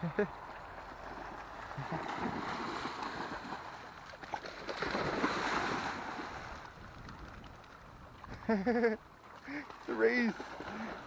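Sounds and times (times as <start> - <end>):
dogs splashing through water: 0.3 - 8.4, 9.2 - 11.0.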